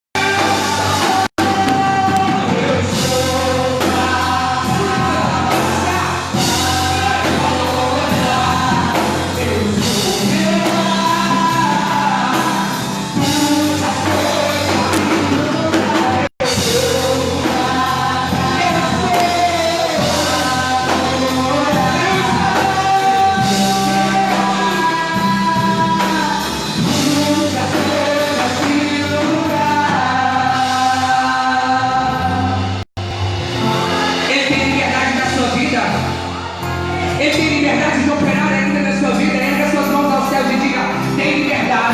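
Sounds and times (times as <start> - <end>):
lead vocalist singing: 0.2 - 41.9
worship band playing: 0.2 - 41.9.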